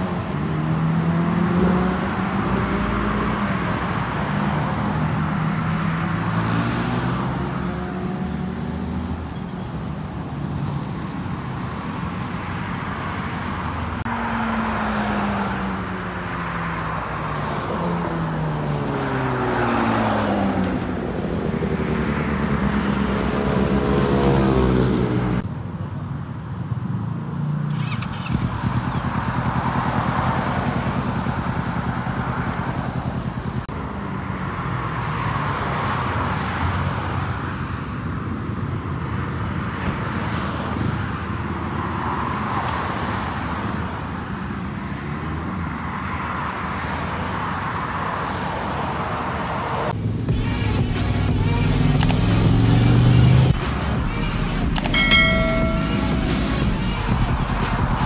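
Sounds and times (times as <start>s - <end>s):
passing vehicle engines: 0.0s - 58.0s
traffic rumble: 0.0s - 58.0s.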